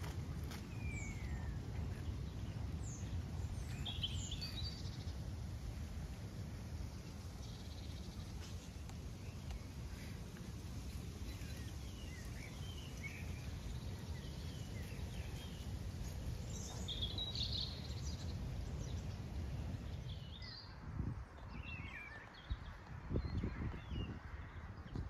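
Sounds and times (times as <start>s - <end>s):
small birds chirping: 0.0s - 25.0s
wind buffeting microphone: 0.0s - 25.0s.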